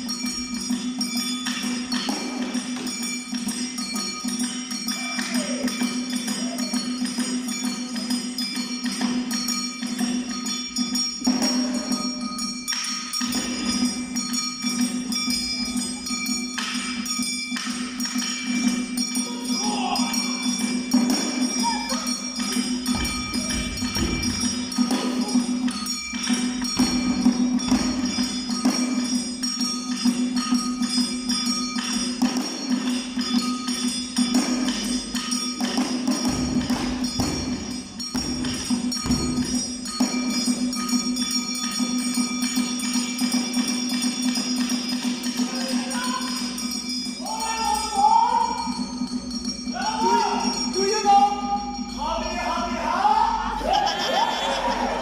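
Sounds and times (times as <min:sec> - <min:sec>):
drum strokes: 0:00.0 - 0:47.9
metallic percussion: 0:00.0 - 0:55.0.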